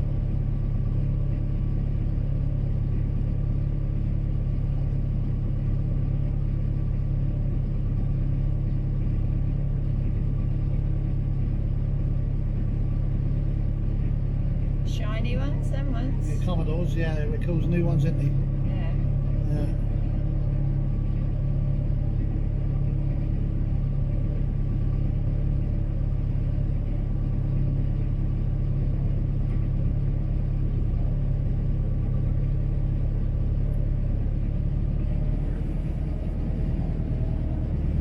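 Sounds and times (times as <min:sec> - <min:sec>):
boat engine humming: 0:00.0 - 0:38.0.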